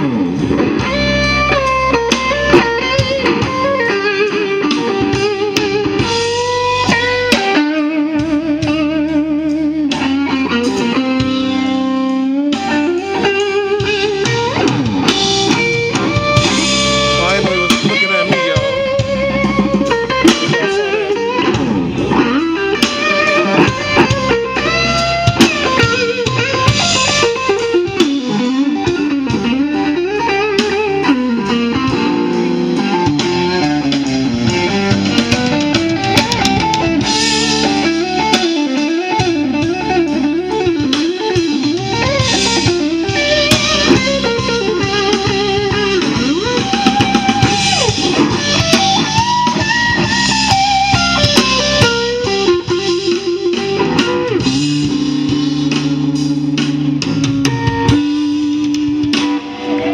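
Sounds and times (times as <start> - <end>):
blues band playing: 0.0 - 59.9
drum kit: 0.0 - 59.9
electric guitar lead: 0.0 - 59.9.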